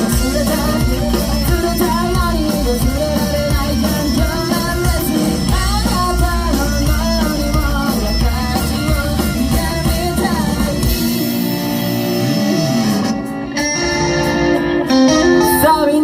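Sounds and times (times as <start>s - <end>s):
held electric guitar notes: 0.0s - 16.0s
live rock band playing: 0.0s - 16.0s.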